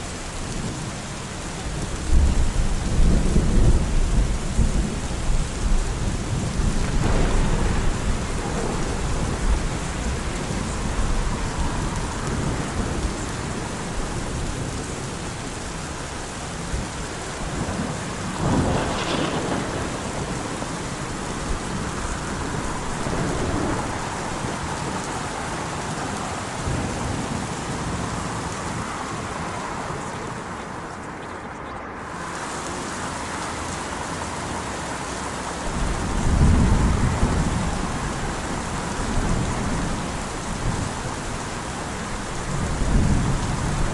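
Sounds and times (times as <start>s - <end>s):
heavy rain hissing: 0.0s - 43.9s
low rolling thunder: 0.2s - 30.0s, 35.6s - 43.9s.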